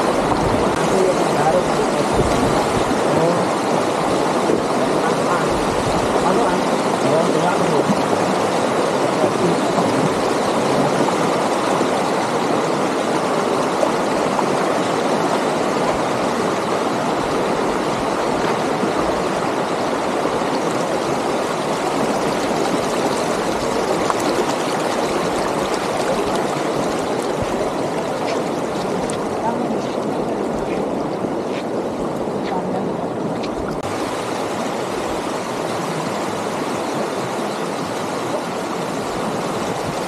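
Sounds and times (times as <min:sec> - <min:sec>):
river flowing: 0:00.0 - 0:40.0.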